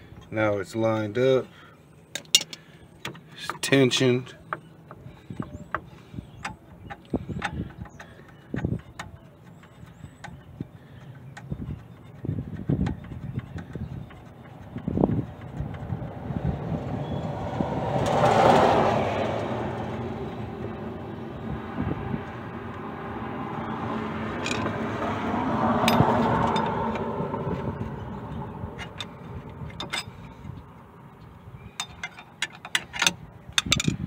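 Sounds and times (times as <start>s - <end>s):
vehicles passing by: 0.0s - 34.0s.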